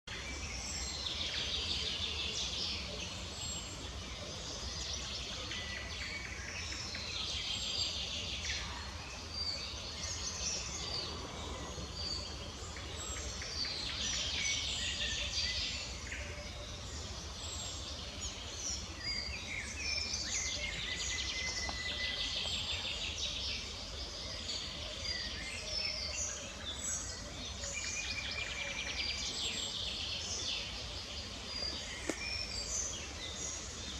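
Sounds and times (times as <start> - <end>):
small birds chirping and singing: 0.0 - 33.9.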